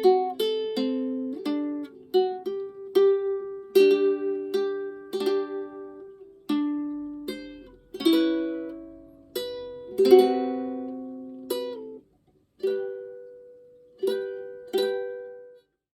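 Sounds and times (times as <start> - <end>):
ukulele playing: 0.0 - 15.8.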